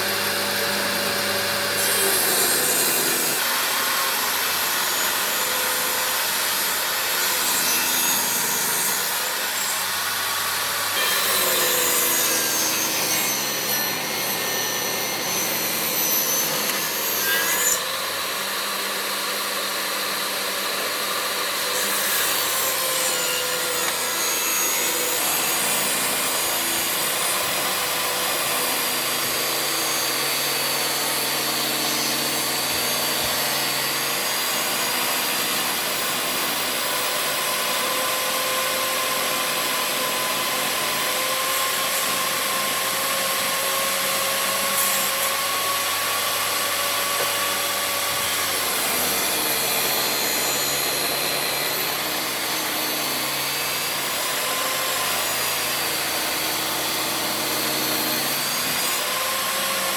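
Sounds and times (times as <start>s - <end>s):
power tool motor whine: 0.0s - 59.9s.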